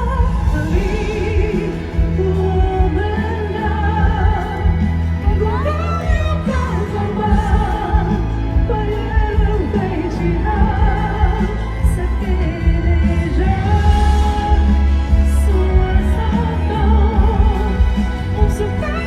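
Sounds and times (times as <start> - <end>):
band playing with heavy bass: 0.0 - 19.0
woman singing pop ballad: 0.0 - 19.0.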